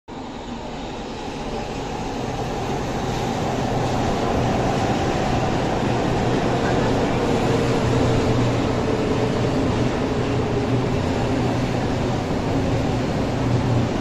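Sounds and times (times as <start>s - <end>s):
metro train rolling rumble: 0.1s - 14.0s.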